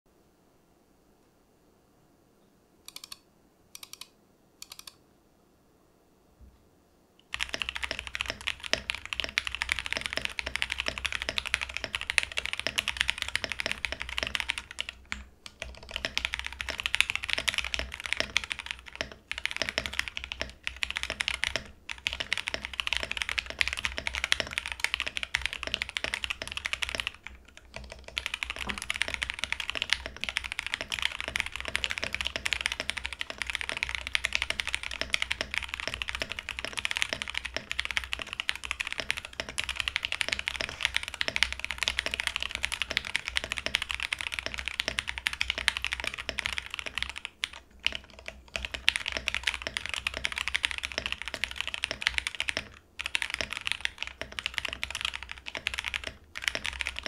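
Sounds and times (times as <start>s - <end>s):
mechanical keyboard typing: 2.9s - 5.0s, 7.2s - 57.0s.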